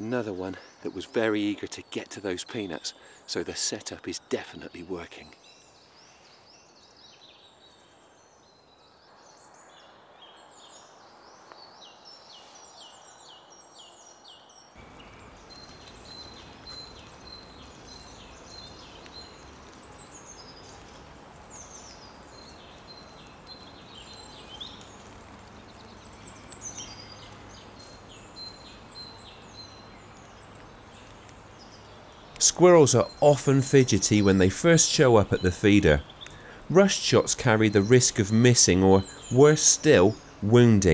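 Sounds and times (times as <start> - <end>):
outdoor hiss: 0.0 - 40.9
small birds singing: 0.0 - 40.9.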